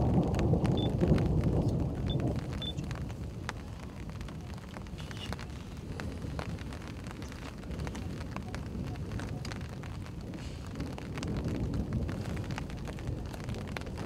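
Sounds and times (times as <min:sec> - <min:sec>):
low uneven rumble: 0:00.0 - 0:14.0.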